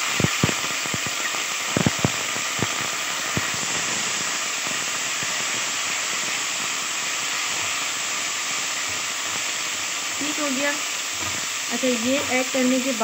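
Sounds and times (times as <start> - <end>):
garlic sizzling in hot oil: 0.0 - 13.0.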